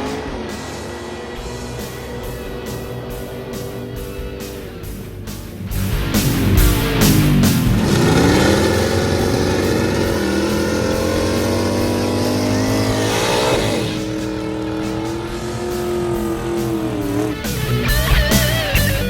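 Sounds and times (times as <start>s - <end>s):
drag car engine at full throttle: 0.0s - 19.0s.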